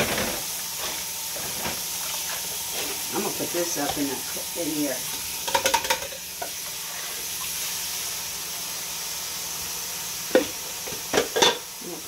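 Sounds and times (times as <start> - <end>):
tap water running into sink: 0.0 - 8.8, 9.6 - 11.7.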